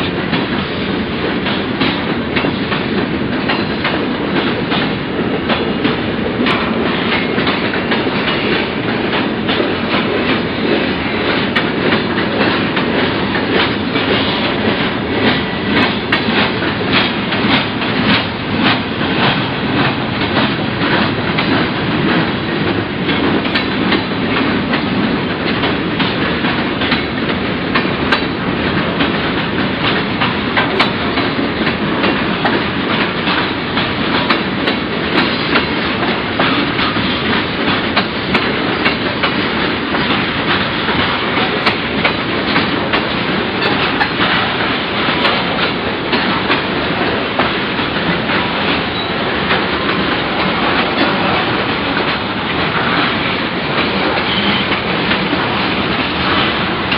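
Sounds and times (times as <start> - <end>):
freight train rumbling past: 0.0 - 56.9
wheels clicking over rail joints: 0.0 - 56.9.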